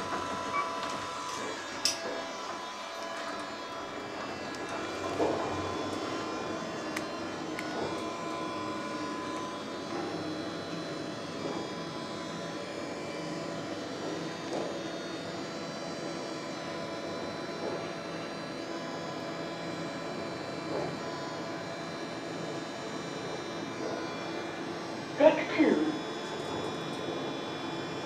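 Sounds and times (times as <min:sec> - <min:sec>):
elevator whirring hum: 0:00.0 - 0:28.0.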